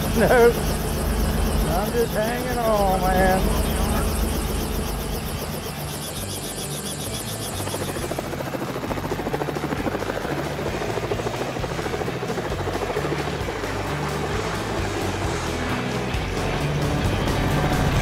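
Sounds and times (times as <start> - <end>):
helicopter rotor blades chopping: 0.0 - 18.0.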